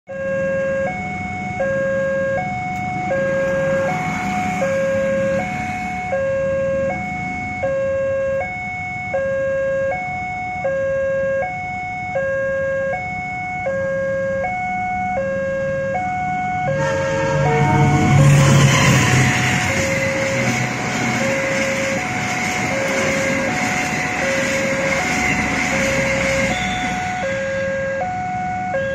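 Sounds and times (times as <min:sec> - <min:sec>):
two-tone crossing alarm: 0:00.1 - 0:28.9.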